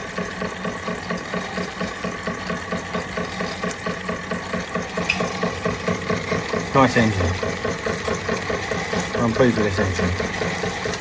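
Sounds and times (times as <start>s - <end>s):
toy steam engine beating: 0.0s - 11.0s.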